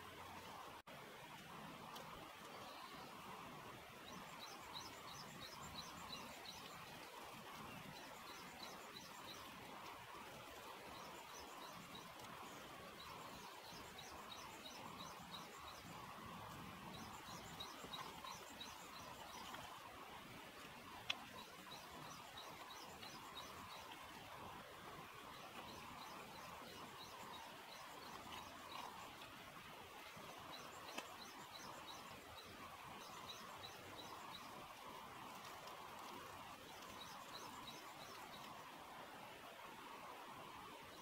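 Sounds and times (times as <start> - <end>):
faint hiss: 0.0 - 41.0.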